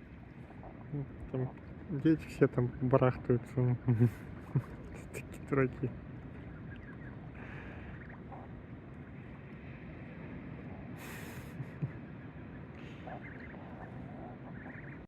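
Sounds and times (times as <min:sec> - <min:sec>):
wind and water at shore: 0:00.0 - 0:15.0.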